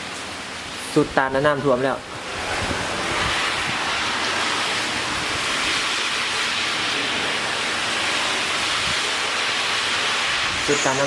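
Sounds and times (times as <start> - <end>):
heavy rain and wind: 0.0 - 11.0.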